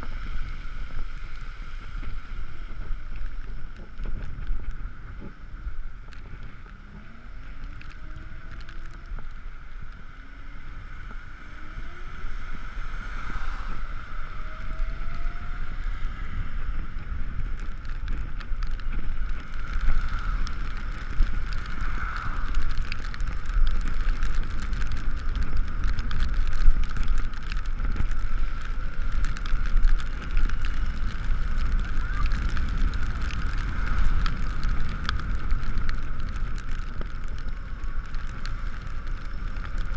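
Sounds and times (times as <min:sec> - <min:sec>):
rain: 0:00.0 - 0:39.9
rushing road noise: 0:00.0 - 0:39.9
wind buffeting microphone: 0:00.0 - 0:39.9.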